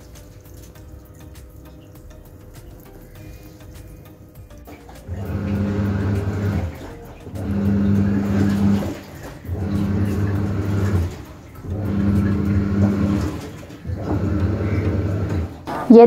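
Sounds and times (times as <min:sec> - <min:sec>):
washing machine motor humming: 0:00.0 - 0:16.0
water churning and sloshing: 0:00.0 - 0:16.0.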